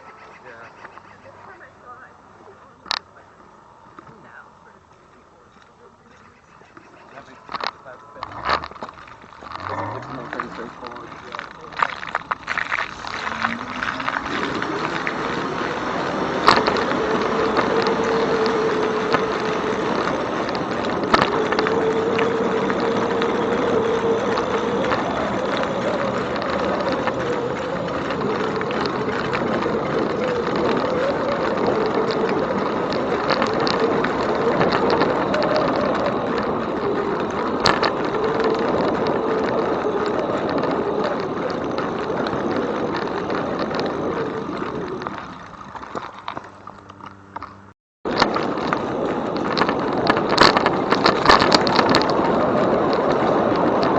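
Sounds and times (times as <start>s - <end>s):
rushing ride noise: 0.0s - 53.9s
electric bike motor whining: 6.5s - 53.9s.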